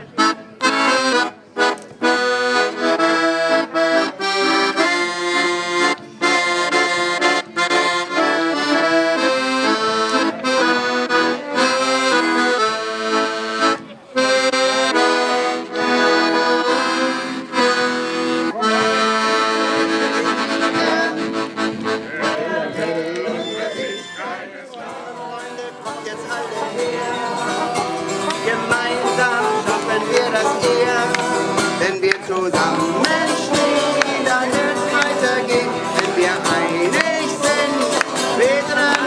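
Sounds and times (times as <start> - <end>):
live instrumental folk music: 0.0 - 39.0.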